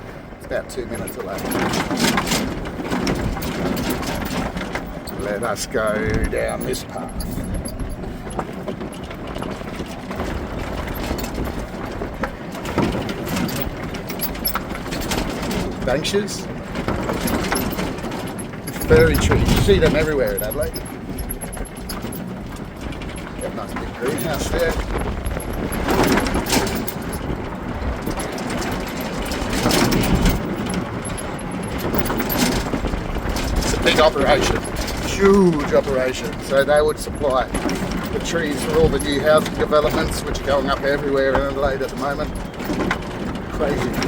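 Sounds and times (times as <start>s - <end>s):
golf cart driving: 0.0s - 44.0s
rattling and clicking: 0.4s - 44.0s.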